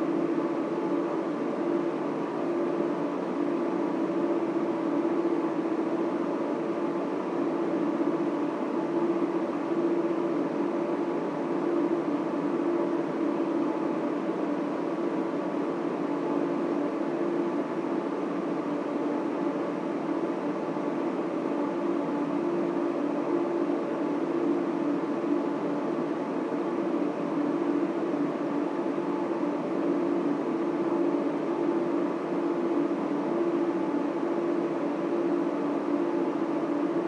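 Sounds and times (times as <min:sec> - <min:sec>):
machinery whirring and humming: 0:00.0 - 0:37.0.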